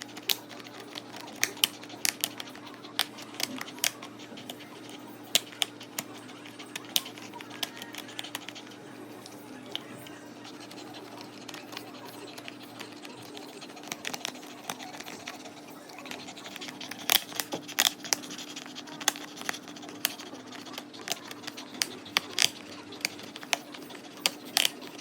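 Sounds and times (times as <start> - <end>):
dog teeth cracking on hard chew: 0.0 - 25.0.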